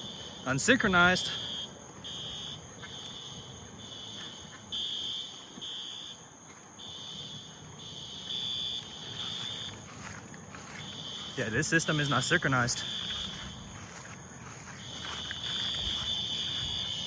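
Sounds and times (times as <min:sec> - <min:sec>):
fire alarm horns beeping: 0:00.0 - 0:17.0.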